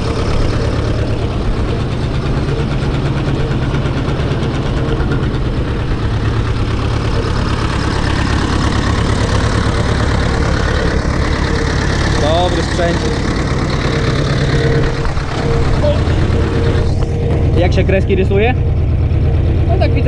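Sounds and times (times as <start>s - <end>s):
diesel engine running steadily: 0.0s - 20.0s.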